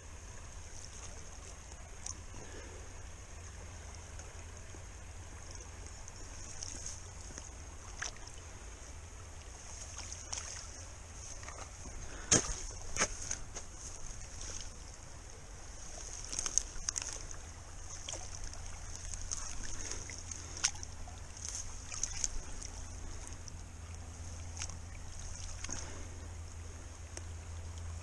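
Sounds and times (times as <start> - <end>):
stream trickling: 0.0 - 28.0
small splashes and clicks: 0.3 - 8.5, 9.3 - 26.1, 27.0 - 28.0.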